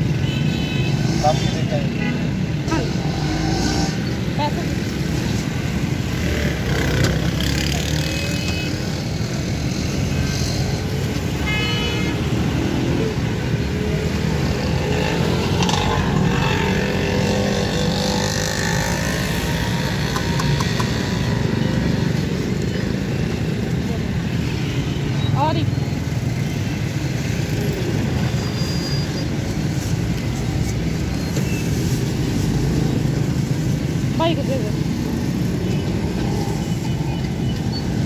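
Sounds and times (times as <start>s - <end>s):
road traffic passing: 0.0s - 38.0s
motorcycles running: 0.9s - 38.0s.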